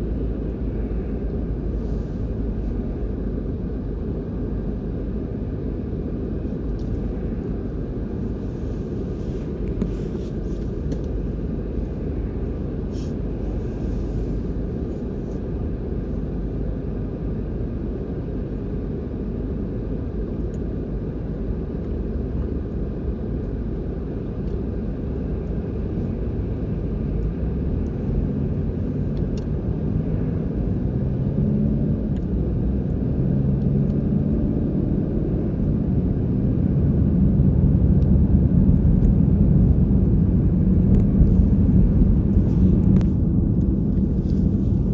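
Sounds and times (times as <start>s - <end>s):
low rumble of vehicle traffic: 0.0s - 44.9s.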